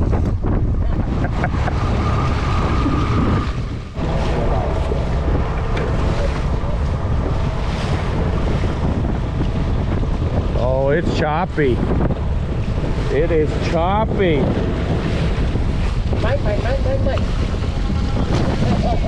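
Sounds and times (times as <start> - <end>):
water rushing along boat hull: 0.0 - 19.0
wind buffeting microphone: 0.0 - 19.0.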